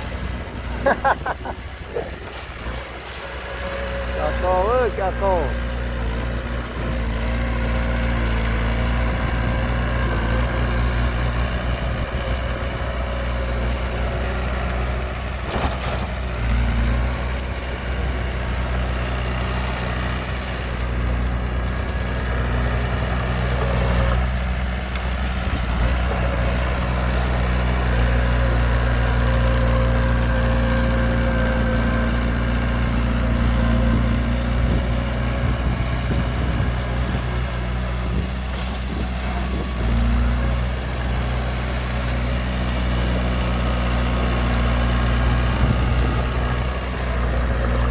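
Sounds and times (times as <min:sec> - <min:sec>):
heavy diesel engines humming: 0:00.0 - 0:47.9.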